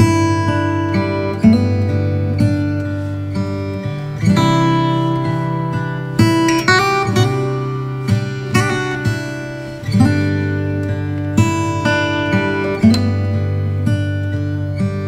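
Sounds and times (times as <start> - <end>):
acoustic guitar tune: 0.0 - 15.0.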